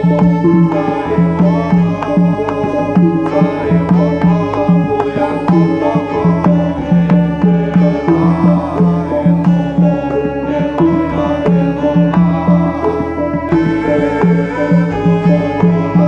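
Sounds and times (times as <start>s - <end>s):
hand drum strokes: 0.0s - 16.0s
ringing gong-chime and metallophone: 0.0s - 16.0s.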